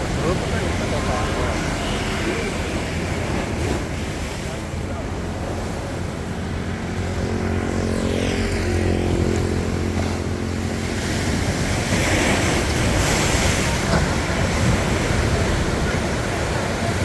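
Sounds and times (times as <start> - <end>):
engine hum: 0.0 - 17.0
sea waves washing up: 0.0 - 17.0.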